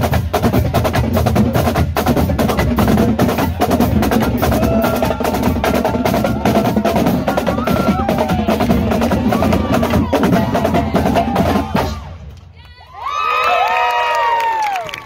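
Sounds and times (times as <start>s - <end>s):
marching drumline cadence: 0.0s - 12.6s.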